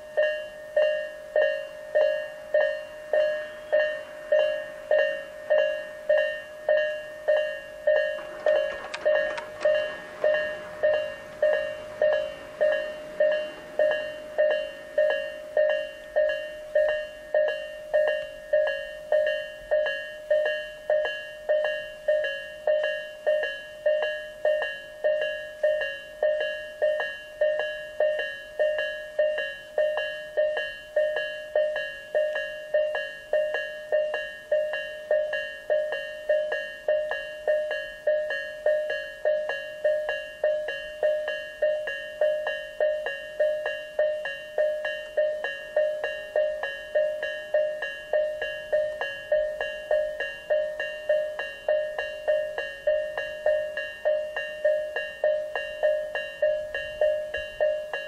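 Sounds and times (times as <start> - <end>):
level crossing warning bell: 0.0 - 58.0.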